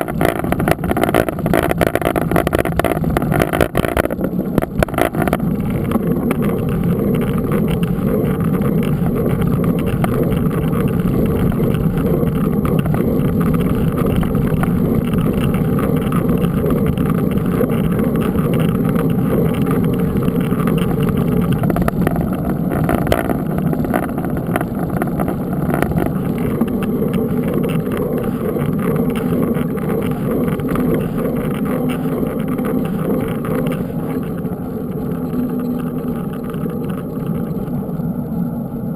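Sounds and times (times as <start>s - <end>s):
bike tyre noise: 0.0s - 38.9s
wind buffeting microphone: 0.0s - 38.9s.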